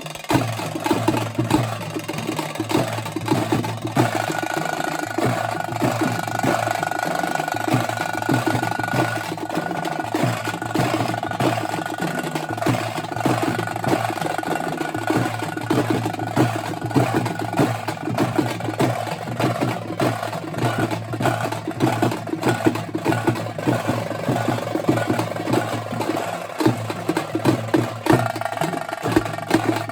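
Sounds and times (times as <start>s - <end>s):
group drumming: 0.0s - 29.9s.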